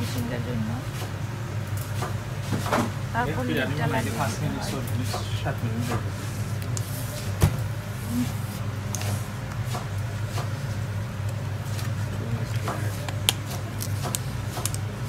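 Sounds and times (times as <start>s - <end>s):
kitchen hum: 0.0s - 15.0s.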